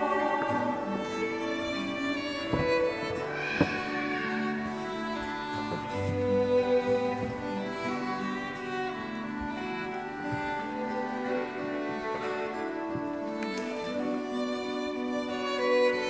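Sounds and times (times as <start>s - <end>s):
soft acoustic guitar: 0.0s - 16.0s
violin playing hymn melody: 0.0s - 16.0s.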